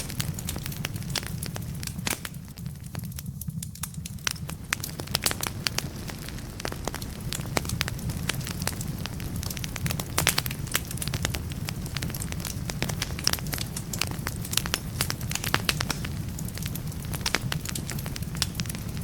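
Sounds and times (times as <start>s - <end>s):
firewood crackling and popping: 0.0s - 19.0s
low fire rumble: 0.0s - 19.0s.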